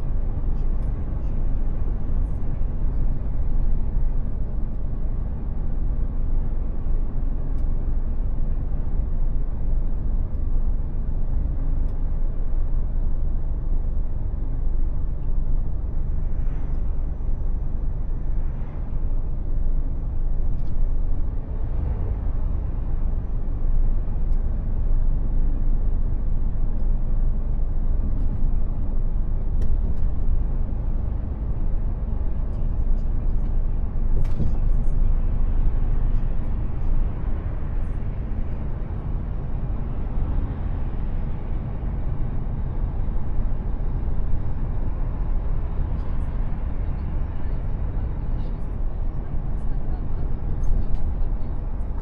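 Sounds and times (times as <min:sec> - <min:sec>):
diesel engine rumble: 0:00.0 - 0:52.0.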